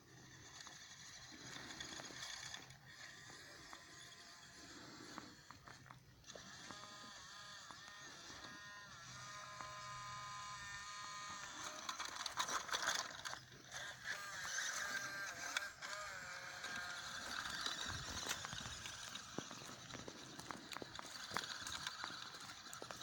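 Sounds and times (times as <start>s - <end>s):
toy truck motor whine: 0.0s - 23.0s
wheels crunching and rattling: 0.0s - 23.0s.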